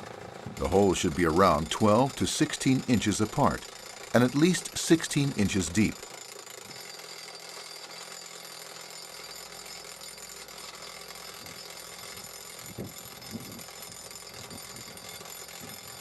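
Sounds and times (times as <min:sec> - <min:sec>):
rock drill hammering: 0:00.0 - 0:16.0.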